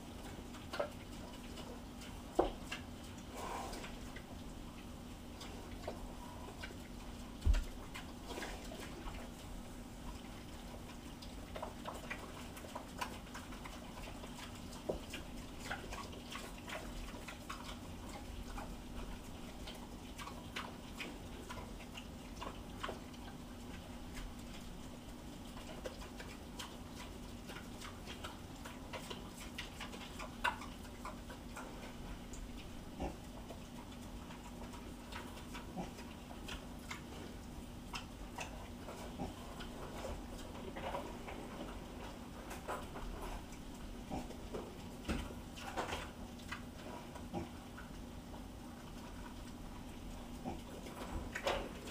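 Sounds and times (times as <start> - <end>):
faint low hum: 0.0 - 51.9
pigs chewing and smacking: 0.0 - 51.9.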